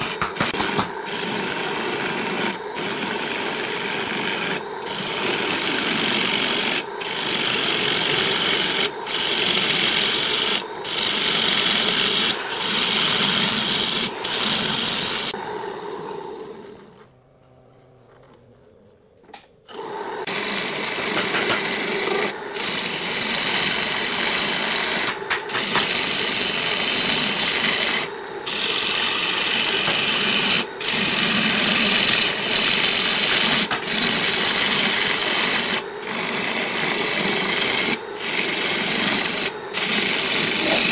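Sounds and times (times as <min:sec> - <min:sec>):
lathe gouge rasping on wood: 0:00.0 - 0:15.4, 0:20.2 - 0:40.9.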